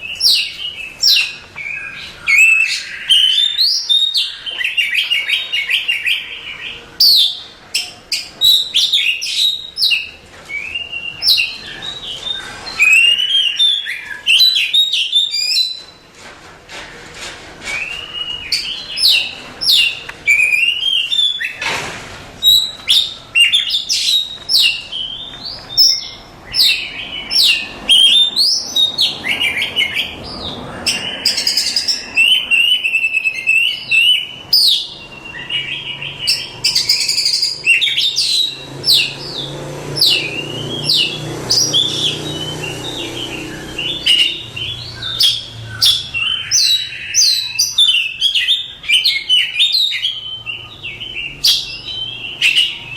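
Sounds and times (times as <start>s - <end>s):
bird song of whistles and trills: 0.0s - 16.0s, 17.6s - 21.6s, 22.4s - 52.9s.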